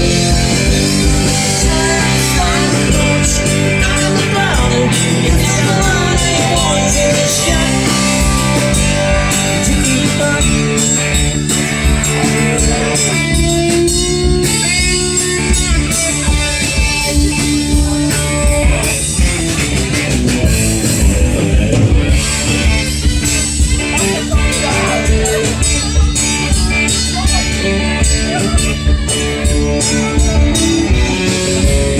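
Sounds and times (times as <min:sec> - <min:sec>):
blues-rock guitar: 0:00.0 - 0:31.9
steady drum beat: 0:00.0 - 0:31.9.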